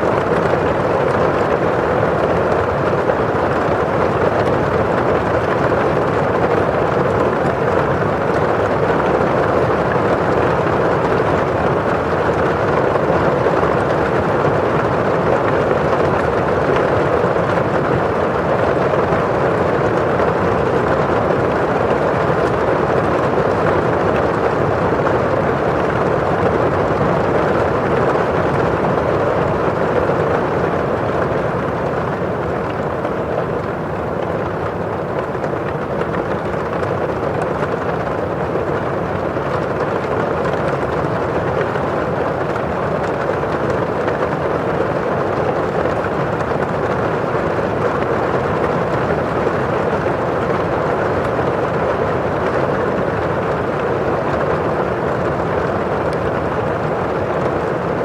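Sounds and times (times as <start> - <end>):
rain on window glass: 0.0 - 58.0.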